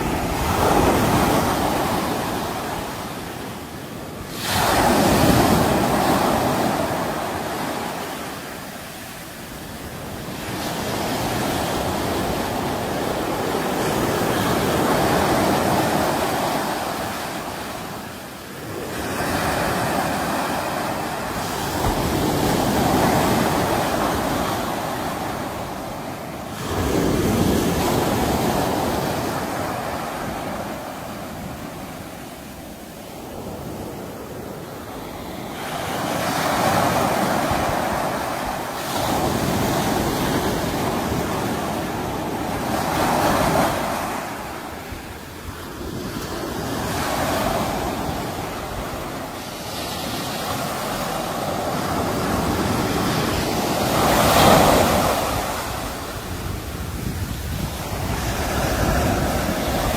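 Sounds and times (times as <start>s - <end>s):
sea waves breaking on shore: 0.0s - 59.9s
wind on microphone: 0.0s - 59.9s.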